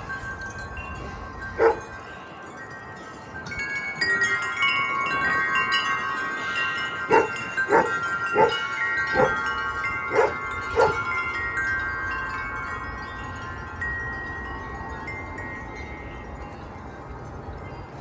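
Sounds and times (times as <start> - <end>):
gusty wind: 0.0 - 18.0
metal wind chimes ringing: 0.0 - 18.0.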